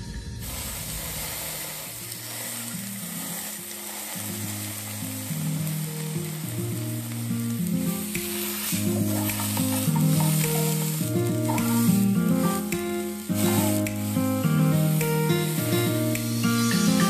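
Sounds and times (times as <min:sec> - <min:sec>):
chicken sizzling in a pan: 0:00.0 - 0:17.0
background music: 0:02.2 - 0:17.0.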